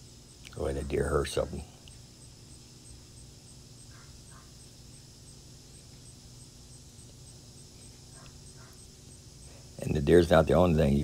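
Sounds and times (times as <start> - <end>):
insect chirps: 0.0 - 11.0
insect chorus buzzing: 0.0 - 11.0.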